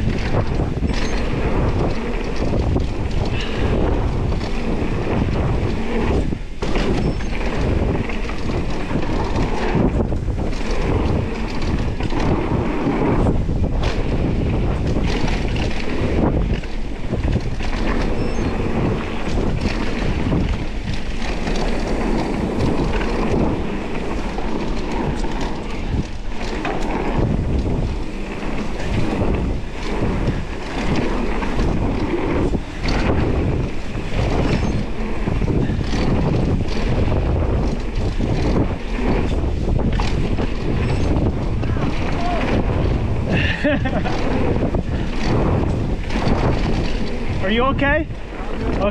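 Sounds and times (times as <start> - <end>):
bike clattering over bumps: 0.0 - 48.9
bike tyres rolling on dirt: 0.0 - 48.9
wind buffeting microphone: 0.0 - 48.9.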